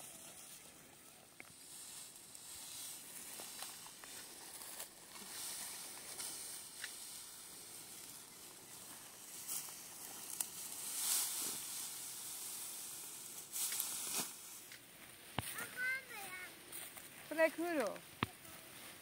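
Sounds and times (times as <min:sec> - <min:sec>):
faint ticks and rustles: 0:00.0 - 0:19.0
high-pitched hiss: 0:01.5 - 0:16.8.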